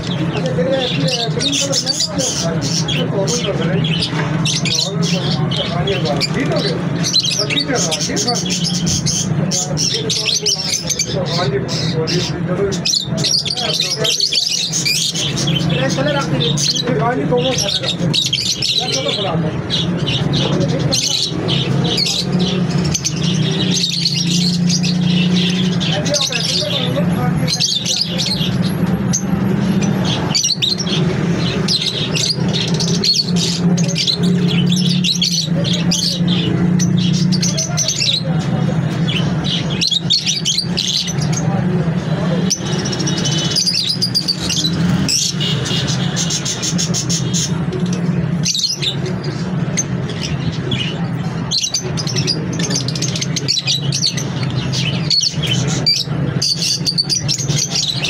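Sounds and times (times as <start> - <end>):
lovebirds chattering: 0.0 - 58.0.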